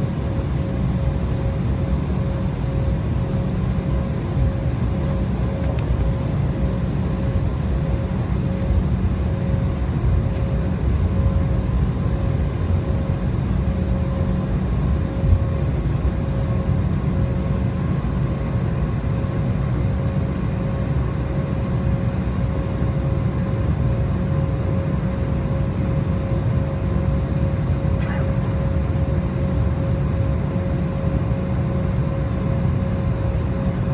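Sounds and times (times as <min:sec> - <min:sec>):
airliner cabin drone: 0:00.0 - 0:33.9
steady engine whine: 0:00.0 - 0:33.9.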